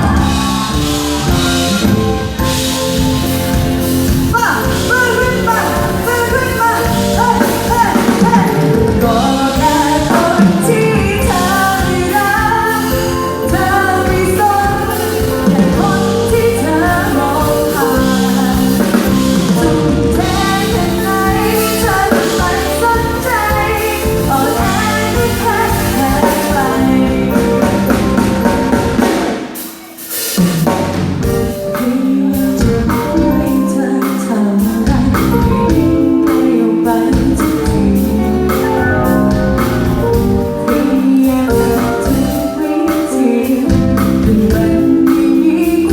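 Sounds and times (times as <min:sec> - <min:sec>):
woman singing: 0:00.0 - 0:01.9, 0:04.2 - 0:29.3, 0:31.4 - 0:45.9
band with drum kit: 0:00.0 - 0:45.9.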